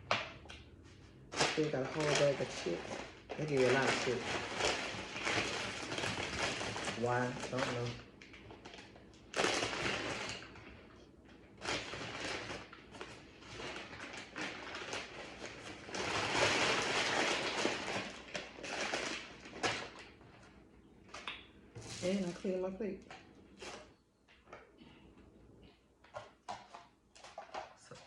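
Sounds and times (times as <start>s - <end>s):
food packaging crinkling: 1.1s - 24.6s.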